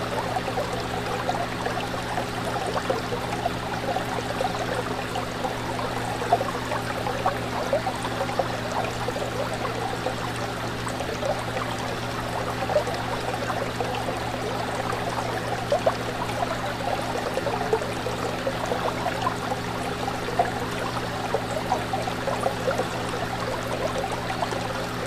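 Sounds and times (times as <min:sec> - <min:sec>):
fish tank water trickling: 0:00.0 - 0:25.0.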